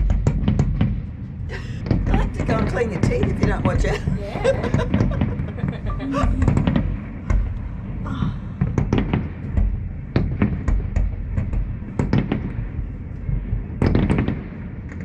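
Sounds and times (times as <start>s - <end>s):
fireworks bangs and cracks: 0.0s - 8.0s, 8.6s - 15.0s
low rumble: 0.0s - 15.0s.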